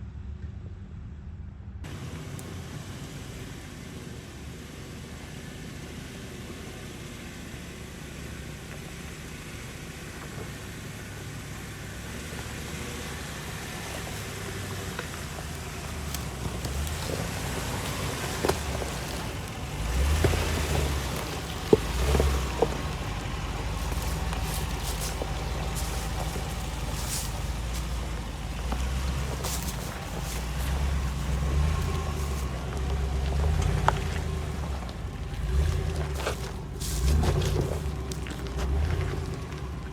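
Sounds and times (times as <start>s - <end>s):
pickup truck engine under load: 1.9s - 39.9s.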